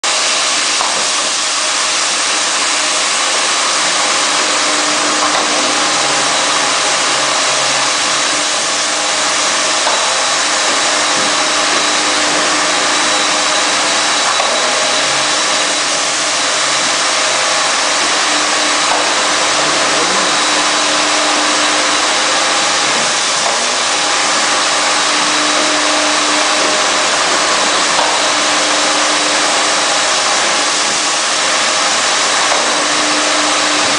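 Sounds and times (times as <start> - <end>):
washing machine running: 0.0 - 33.9.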